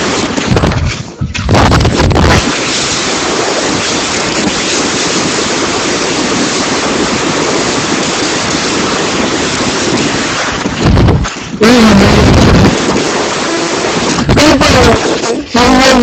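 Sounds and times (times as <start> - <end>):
wind buffeting microphone: 0.0 - 16.0
heavy rain hiss: 1.7 - 16.0.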